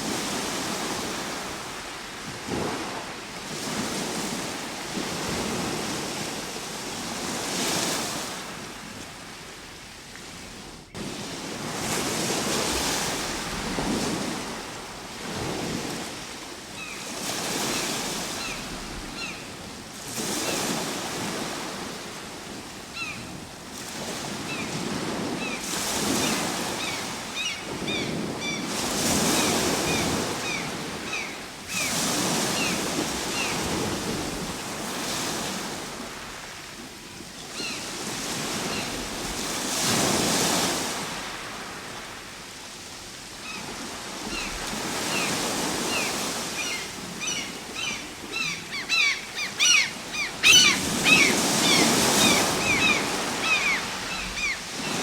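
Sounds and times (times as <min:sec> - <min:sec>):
ocean waves breaking: 0:00.0 - 0:09.6, 0:10.5 - 0:42.6, 0:43.4 - 0:55.0.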